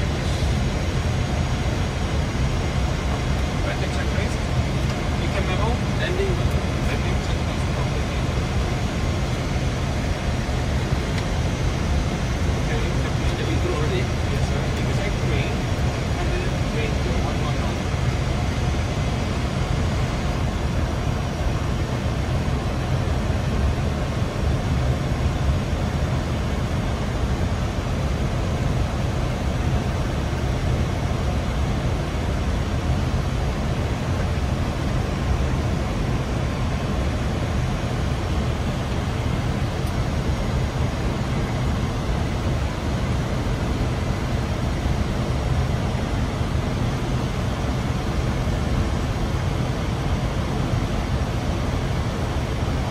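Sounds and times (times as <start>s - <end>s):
cockpit air rush and rumble: 0.0s - 52.9s.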